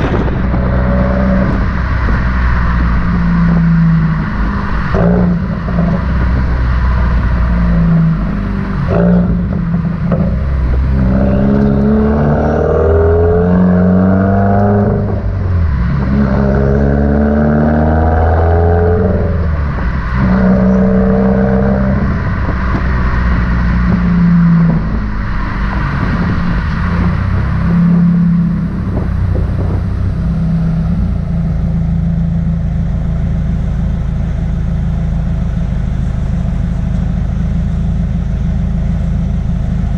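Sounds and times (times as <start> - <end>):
car engine accelerating hard: 0.0 - 39.9
exhaust crackles: 0.0 - 39.9.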